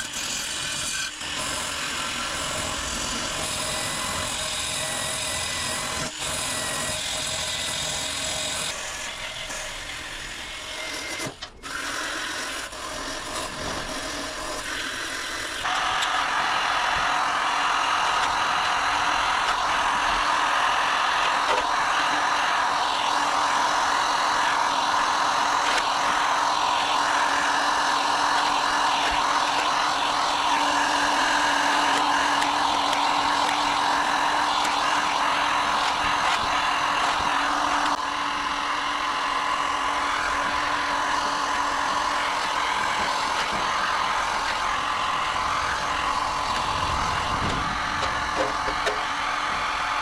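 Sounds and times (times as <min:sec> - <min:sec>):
power tool stripping metal: 0:00.0 - 0:50.0.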